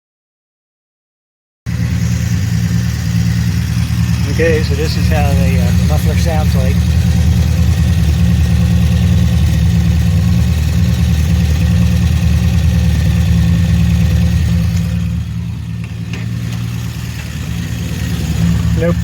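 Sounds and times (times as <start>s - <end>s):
car engine idling: 1.7s - 19.0s.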